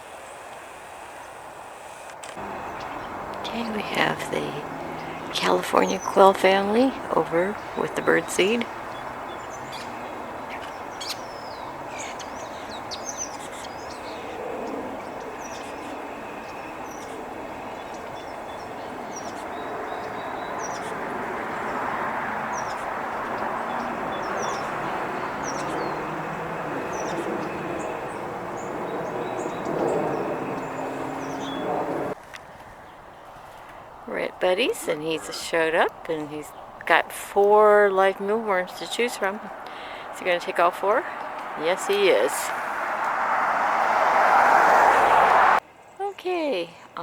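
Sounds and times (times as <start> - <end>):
small birds chirping: 0.0 - 43.2
distant rumble: 0.0 - 45.6.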